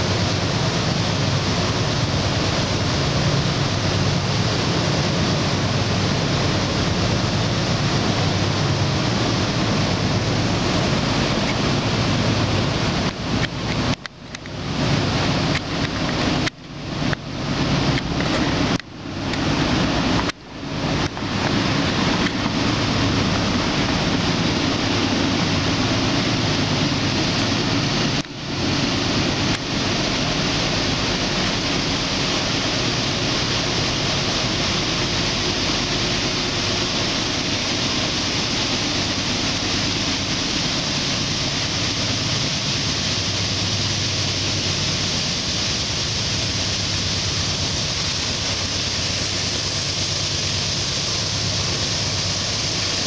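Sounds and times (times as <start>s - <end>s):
constant hiss: 0.0s - 53.0s
diesel locomotive engine drone: 0.0s - 53.0s.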